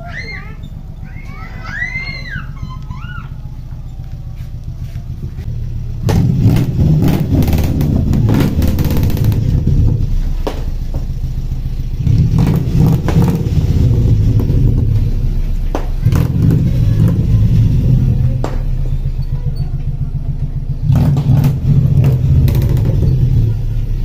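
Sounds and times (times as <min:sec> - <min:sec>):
motorcycle exhaust idling and revving: 0:00.0 - 0:24.0.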